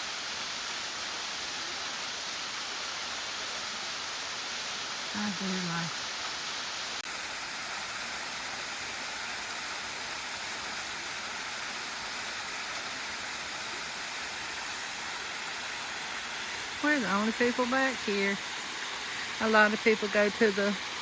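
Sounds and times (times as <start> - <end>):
small waterfall rushing: 0.0 - 21.0.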